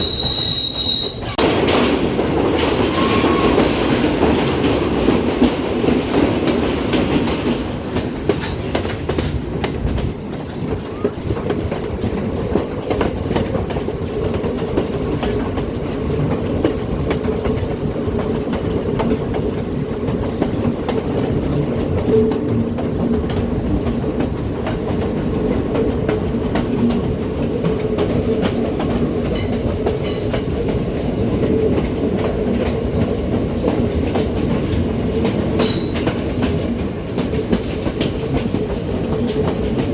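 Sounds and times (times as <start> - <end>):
train rumbling on track: 0.0 - 39.9
wheels clattering over rail joints: 0.0 - 39.9.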